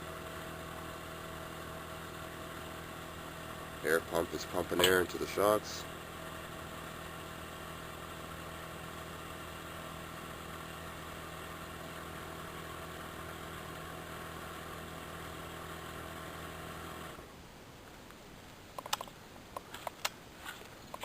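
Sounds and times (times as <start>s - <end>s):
air compressor humming: 0.0s - 17.3s.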